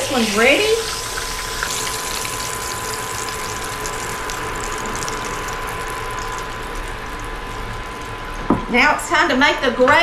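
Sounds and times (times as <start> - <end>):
oil sizzling in a skillet: 0.0 - 8.5.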